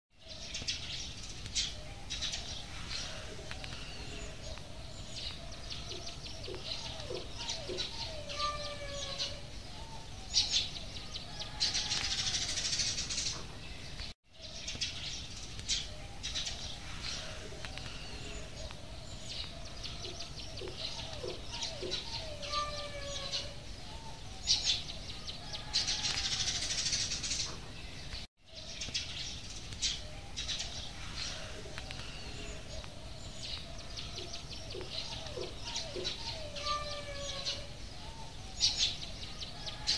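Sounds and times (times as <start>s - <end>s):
birds chirping and calling: 0.2s - 39.9s.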